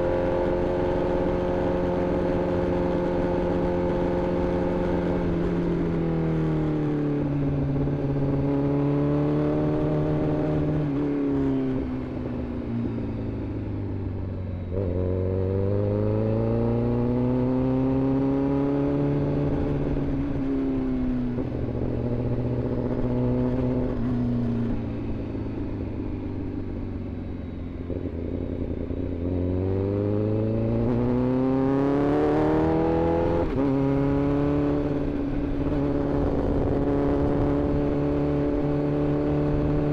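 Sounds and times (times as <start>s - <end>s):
motorcycle engine revving: 0.0s - 13.1s, 14.1s - 20.6s, 21.3s - 39.9s.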